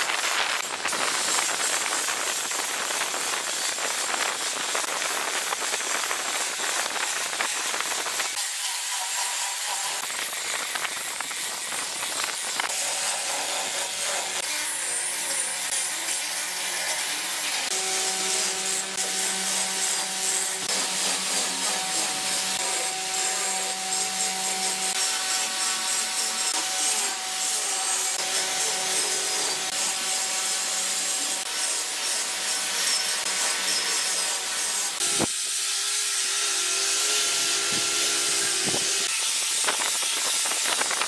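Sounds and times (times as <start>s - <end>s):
angle grinder grinding concrete: 0.0s - 41.0s.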